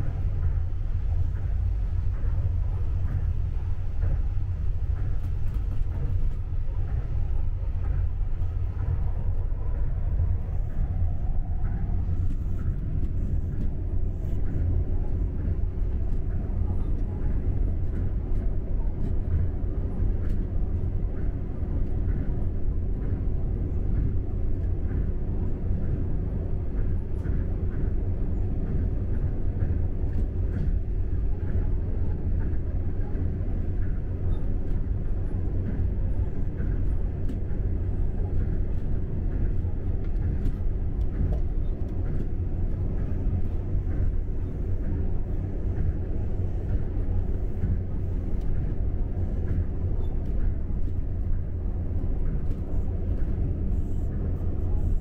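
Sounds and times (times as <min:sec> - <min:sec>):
monorail car rumble: 0:00.0 - 0:55.0.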